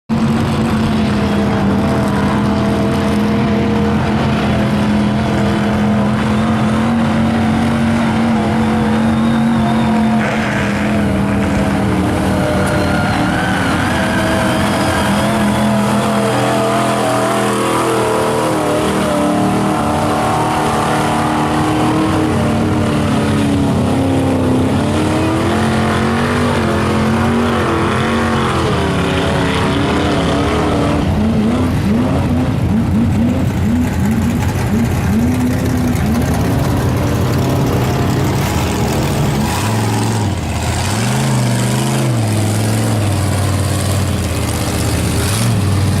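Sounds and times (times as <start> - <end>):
truck engine revving: 0.0 - 46.0.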